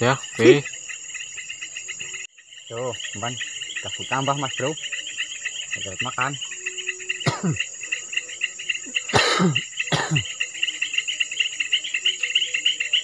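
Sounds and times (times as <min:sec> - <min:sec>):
high-pitched insect whine: 0:00.0 - 0:13.0
insects chirping: 0:00.0 - 0:13.0.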